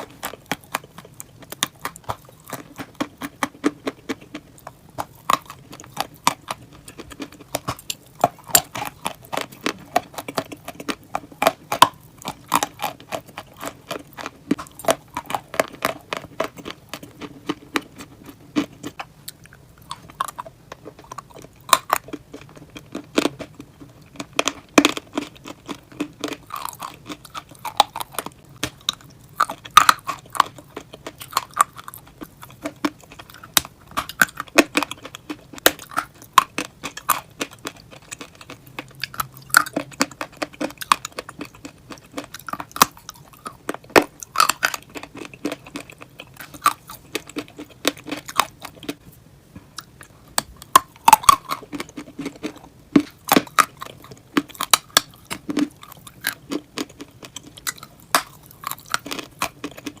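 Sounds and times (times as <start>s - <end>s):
person chewing crunchy clay: 0.0s - 60.0s.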